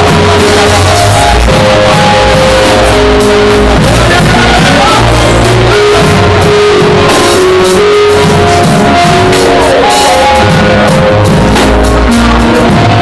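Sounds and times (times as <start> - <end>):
loud band music: 0.0 - 13.0.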